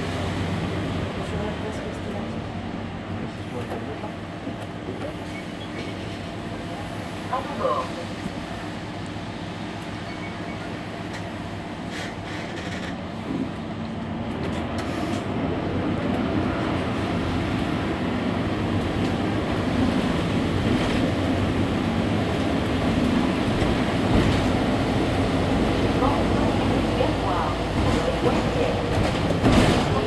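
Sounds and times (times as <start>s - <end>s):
bus engine humming: 0.0s - 30.0s.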